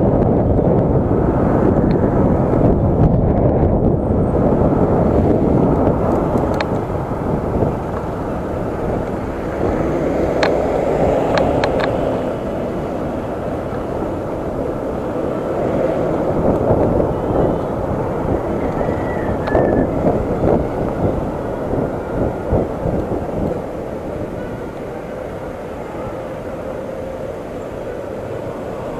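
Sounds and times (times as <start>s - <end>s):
road and traffic noise: 0.0s - 28.9s
wind buffeting microphone: 0.0s - 28.9s.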